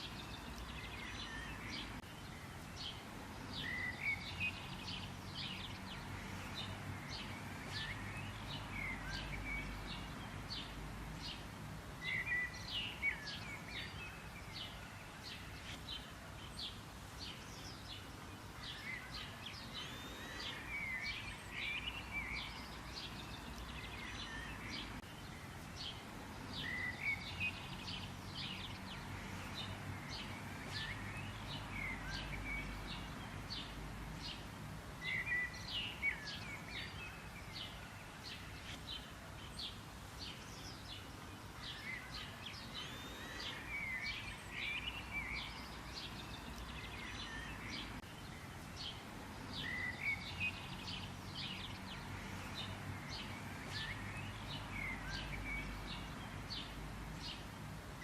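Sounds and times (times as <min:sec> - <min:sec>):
birds chirping: 0:00.0 - 0:58.0
low background noise: 0:00.0 - 0:58.0.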